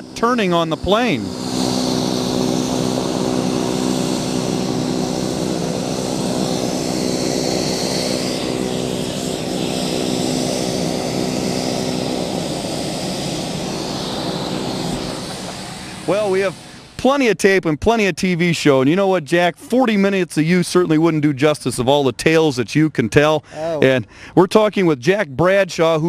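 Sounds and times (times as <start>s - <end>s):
propeller engines droning: 0.0s - 26.0s.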